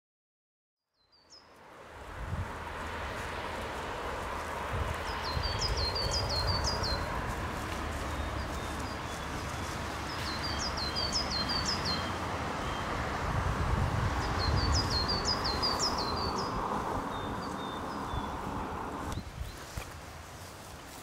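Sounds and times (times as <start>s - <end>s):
songbird singing: 0.8s - 1.7s, 2.7s - 13.2s, 14.0s - 20.0s.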